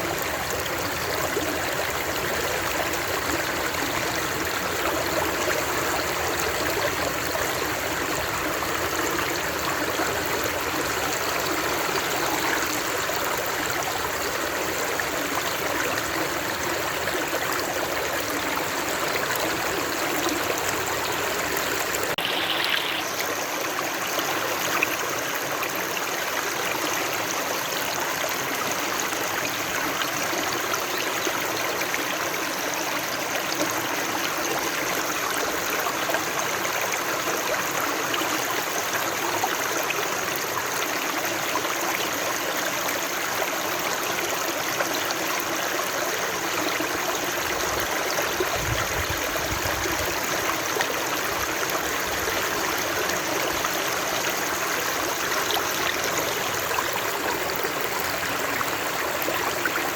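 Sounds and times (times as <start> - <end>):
rush of flowing water: 0.0 - 59.9.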